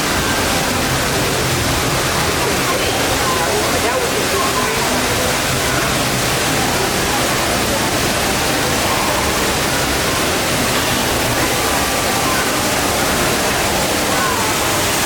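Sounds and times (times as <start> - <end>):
murmur of voices: 0.0 - 15.0
running water rushing: 0.0 - 15.0.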